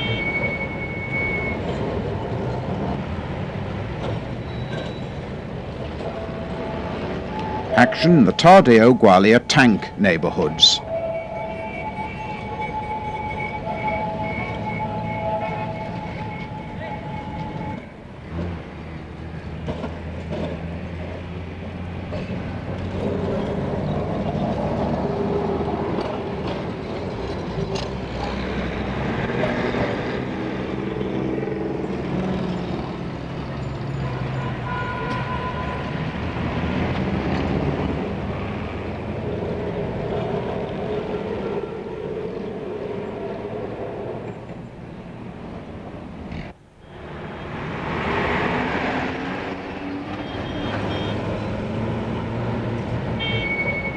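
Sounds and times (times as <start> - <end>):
electric trams running on track: 0.0 - 53.9.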